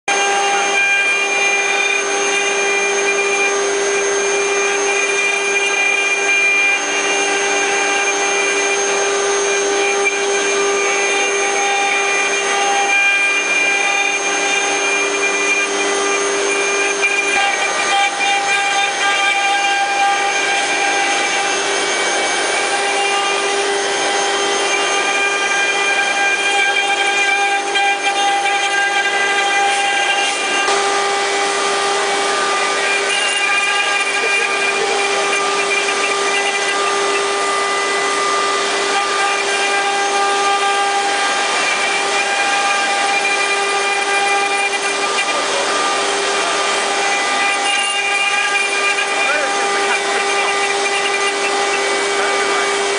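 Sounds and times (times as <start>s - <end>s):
wood carving machine whining: 0.0s - 52.9s
hiss of cutting wood: 4.0s - 52.9s.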